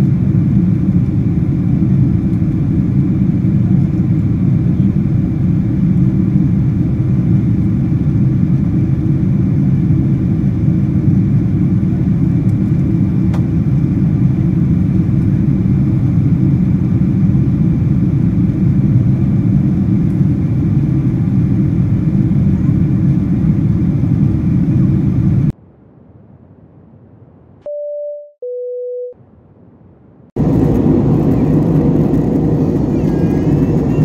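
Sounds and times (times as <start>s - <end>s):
jet airliner cabin drone: 0.0s - 27.7s, 28.4s - 34.0s.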